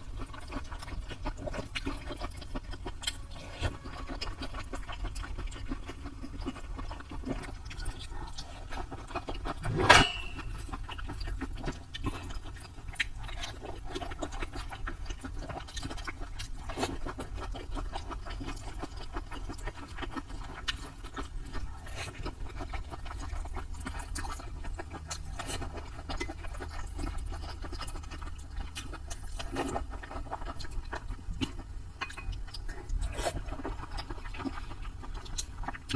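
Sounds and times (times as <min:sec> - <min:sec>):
wet chewing and smacking: 0:00.0 - 0:35.9.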